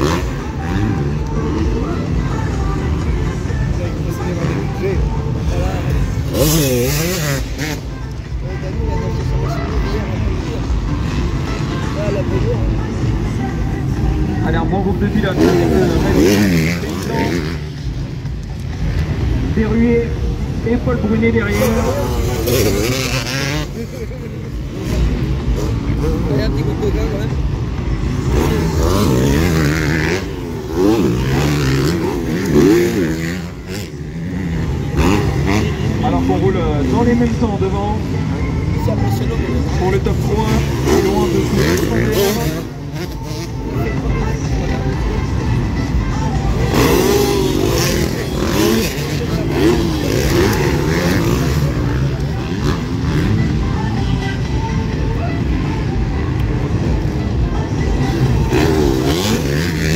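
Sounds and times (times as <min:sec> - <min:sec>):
motocross engines revving: 0:00.0 - 0:59.9.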